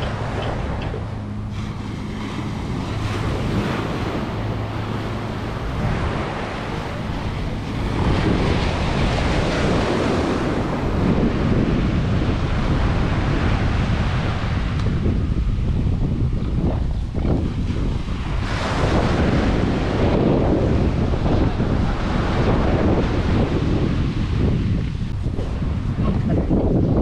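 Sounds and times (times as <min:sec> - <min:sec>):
small waves breaking on shore: 0:00.0 - 0:15.1, 0:17.2 - 0:27.0
wind buffeting microphone: 0:00.0 - 0:27.0.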